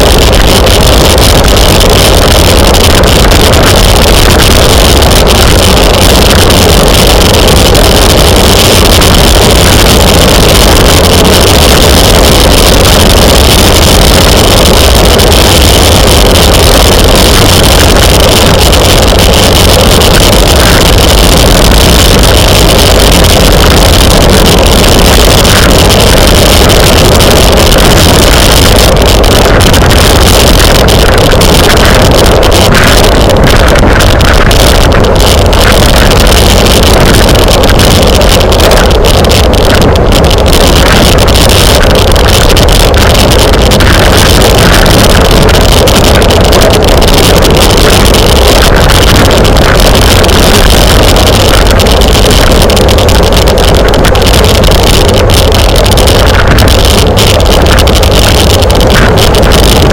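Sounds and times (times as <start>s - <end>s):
deep rumble: 0.0s - 59.9s
wind buffeting microphone: 0.0s - 59.9s.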